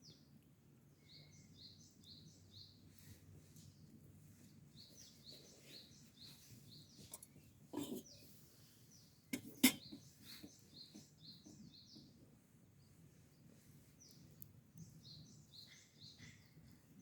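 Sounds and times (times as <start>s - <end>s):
small bird chirping: 0.9s - 17.0s.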